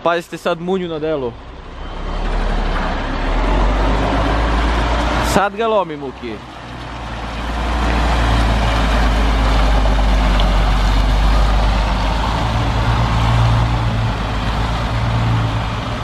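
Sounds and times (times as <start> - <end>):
truck diesel engine at low revs: 0.0 - 16.0.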